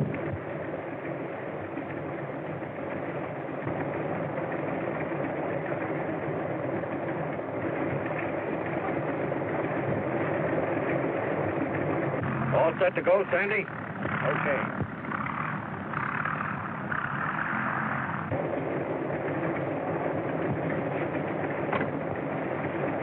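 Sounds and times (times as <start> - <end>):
propeller aircraft engine idling: 0.0 - 23.0.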